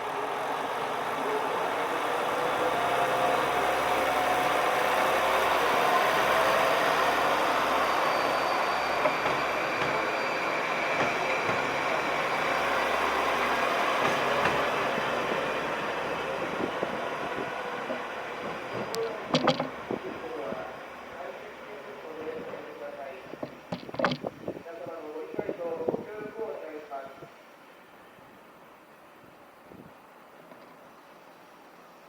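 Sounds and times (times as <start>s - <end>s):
train rumbling on rails: 0.0s - 26.9s.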